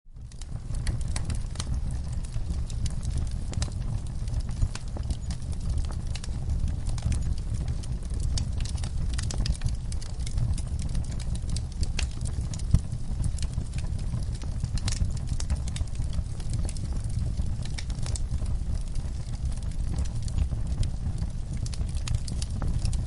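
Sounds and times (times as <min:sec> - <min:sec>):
logs crackling and popping: 0:00.1 - 0:23.0
loud crack of fire: 0:00.1 - 0:23.0
low rumble of flames: 0:00.1 - 0:23.0.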